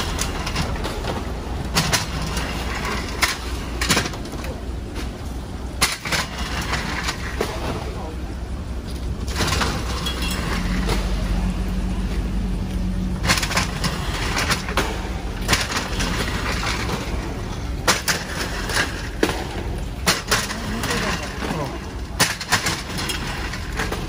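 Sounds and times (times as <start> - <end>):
sharp knocks and clatters: 0.0 - 5.2, 5.8 - 8.1, 8.9 - 11.2, 13.2 - 24.0
engine rumbling: 0.0 - 24.0.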